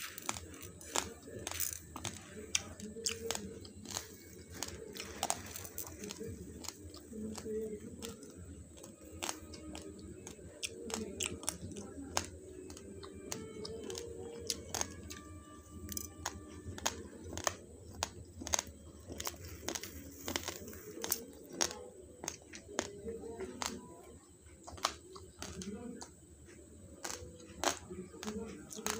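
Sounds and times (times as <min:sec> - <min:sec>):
rice grains crunched between teeth: 0:00.0 - 0:23.8, 0:27.0 - 0:28.9
faint background music: 0:00.0 - 0:28.9.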